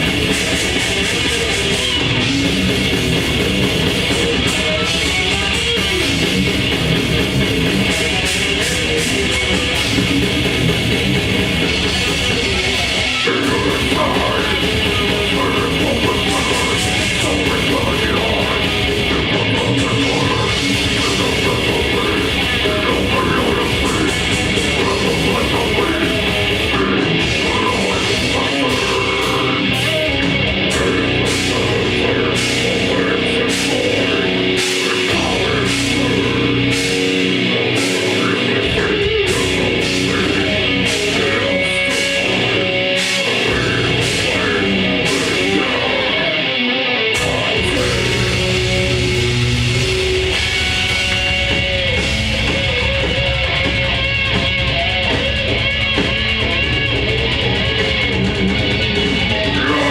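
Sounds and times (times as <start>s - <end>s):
grindcore band playing live: 0.0s - 59.9s.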